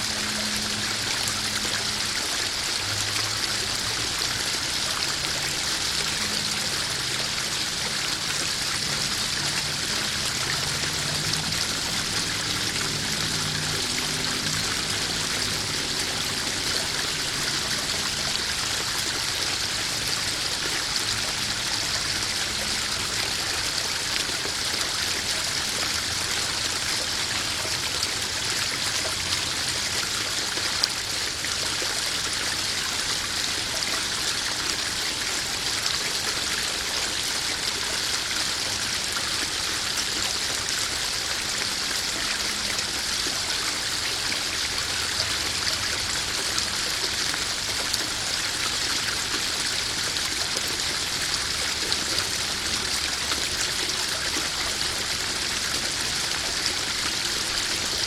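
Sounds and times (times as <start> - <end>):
waterfall splashing into pond: 0.0 - 58.0.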